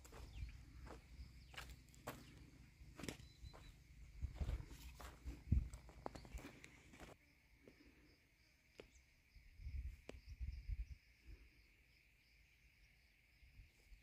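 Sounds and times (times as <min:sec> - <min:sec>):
faint insect chirring: 0:00.0 - 0:14.0.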